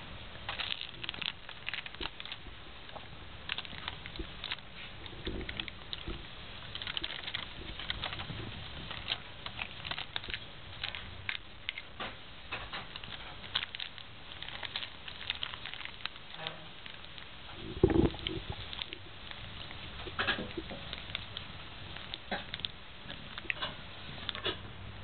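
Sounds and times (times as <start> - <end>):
cat chewing toy clicks and rustles: 0.3 - 24.8.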